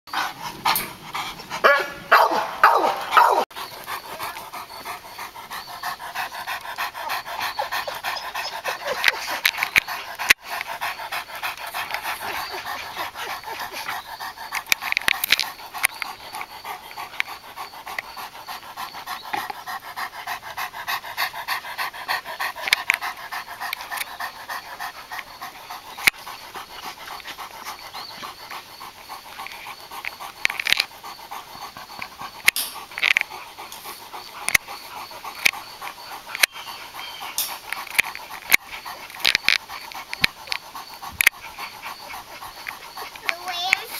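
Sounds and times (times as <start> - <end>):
dog panting: 0.1 - 43.9.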